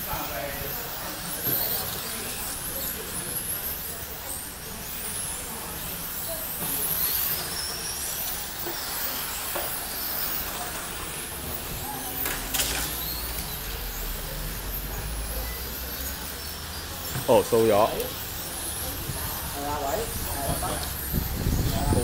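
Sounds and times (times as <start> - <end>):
rc car motor whining: 0.0 - 22.0.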